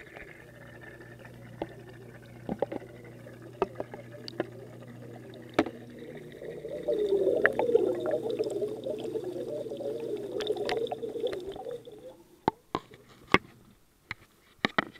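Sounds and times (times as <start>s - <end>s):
muffled water gurgling underwater: 0.0s - 12.5s.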